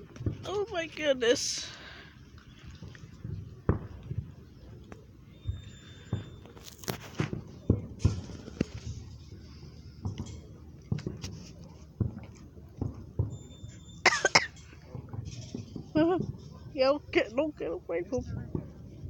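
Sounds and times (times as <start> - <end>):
distant fireworks thumps and pops: 0.0 - 0.7, 2.3 - 19.0.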